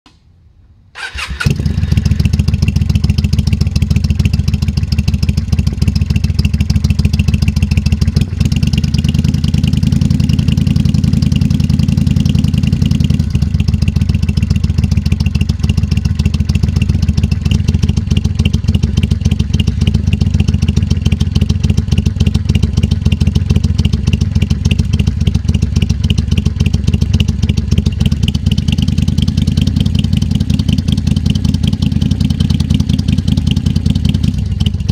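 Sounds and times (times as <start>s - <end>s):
motorcycle engine idling: 1.0s - 34.9s.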